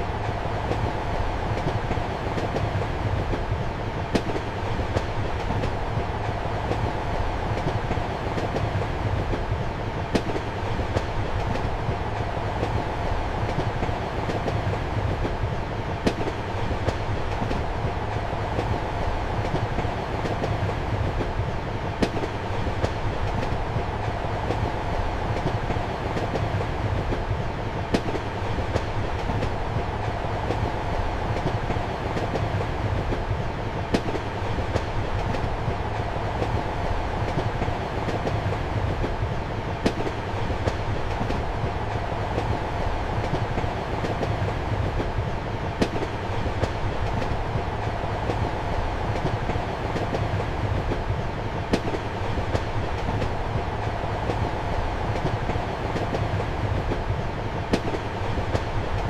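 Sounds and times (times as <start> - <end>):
train rumbling: 0.0 - 59.0
train wheels clacking: 0.0 - 59.0.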